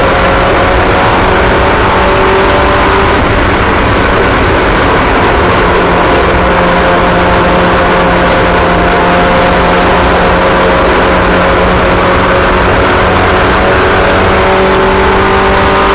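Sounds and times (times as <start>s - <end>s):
race car engines running: 0.0s - 15.9s.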